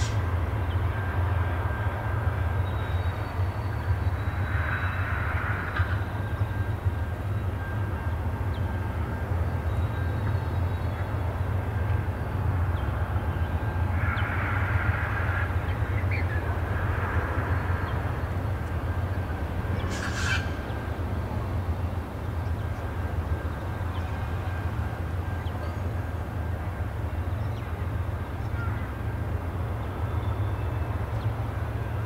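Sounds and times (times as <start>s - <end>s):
diesel locomotive engines rumbling: 0.0s - 32.0s.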